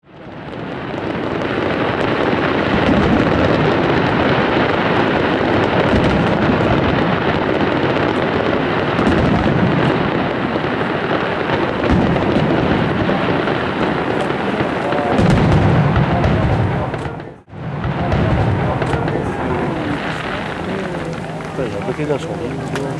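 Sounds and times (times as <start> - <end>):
fireworks bursting: 0.0 - 22.9
fireworks crackling: 0.0 - 22.9.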